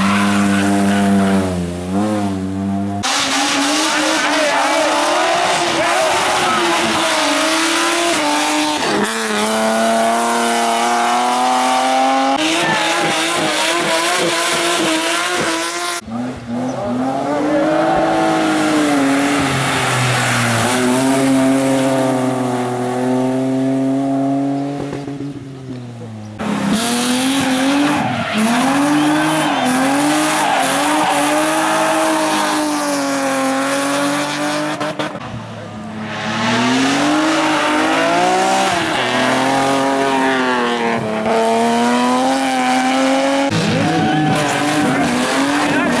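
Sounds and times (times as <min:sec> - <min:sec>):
racing car engines revving: 0:00.0 - 0:46.0.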